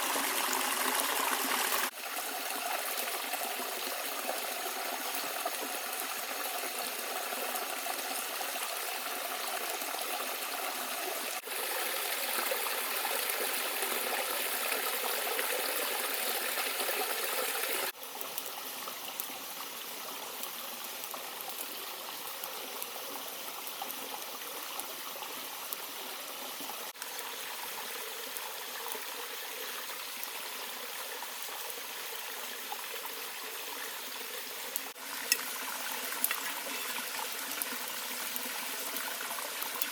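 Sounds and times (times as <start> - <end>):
running water rushing and trickling: 0.0 - 39.9.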